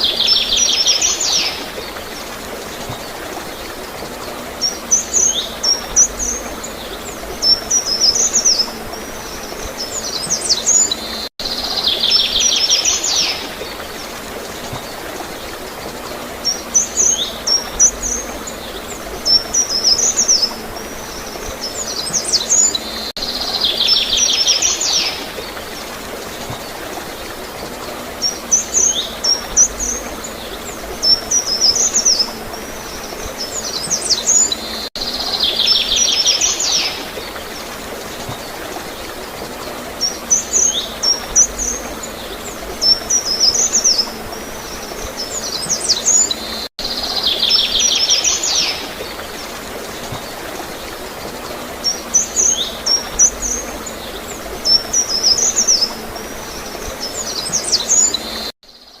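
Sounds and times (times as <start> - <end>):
water gurgling: 0.0 - 58.5.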